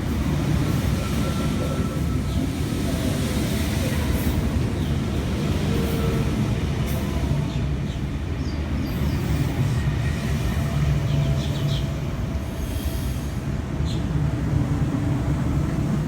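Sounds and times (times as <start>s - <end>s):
electric train rumble and hum: 0.0s - 16.0s.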